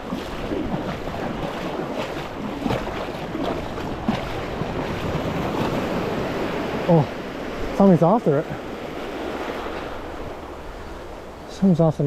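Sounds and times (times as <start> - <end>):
small waves lapping: 0.0 - 12.0
water splashes: 0.0 - 12.0
wind on microphone: 0.0 - 12.0.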